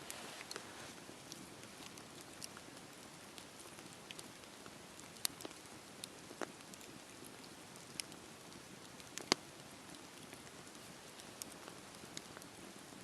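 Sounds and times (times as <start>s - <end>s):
campfire crackling and hissing: 0.0s - 13.0s.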